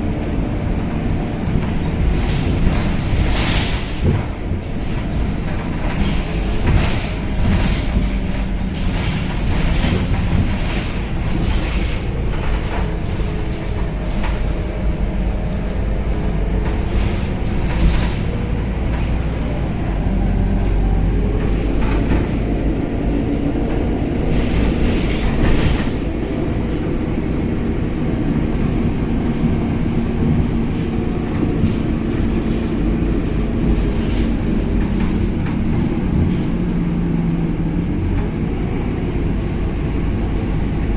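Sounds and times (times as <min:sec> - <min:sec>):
bus engine and road drone: 0:00.0 - 0:40.9
rattles from bus body: 0:00.0 - 0:40.9.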